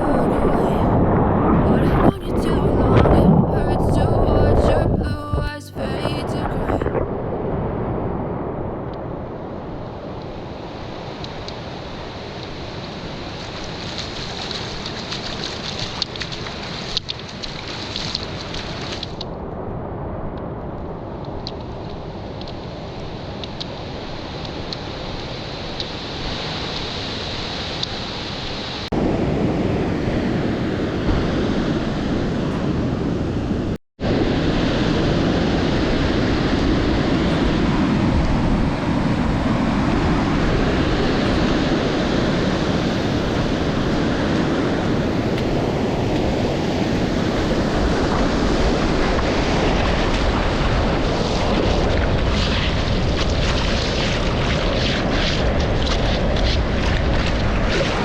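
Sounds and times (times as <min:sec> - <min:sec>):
surf rushing: 0:00.0 - 0:20.2, 0:20.9 - 0:58.0
wind noise on microphone: 0:00.0 - 0:26.7, 0:28.8 - 0:58.0.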